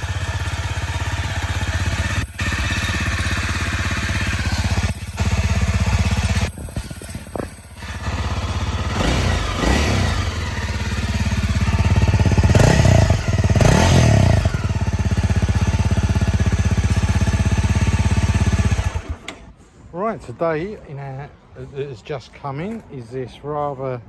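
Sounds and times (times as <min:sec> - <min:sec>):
motorcycle engine idling and revving: 0:00.0 - 0:19.6.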